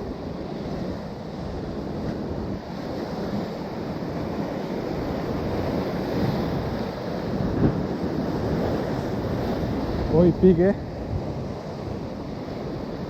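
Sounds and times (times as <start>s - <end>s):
ocean surf washing: 0.0s - 13.0s
wind on microphone: 0.0s - 13.0s.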